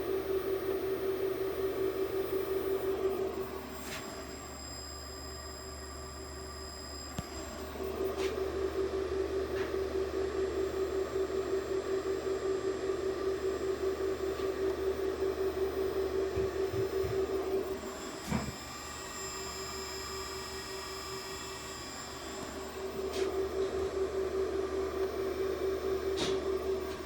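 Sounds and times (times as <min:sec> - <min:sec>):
electric motor pulsing whine: 0:00.0 - 0:27.0.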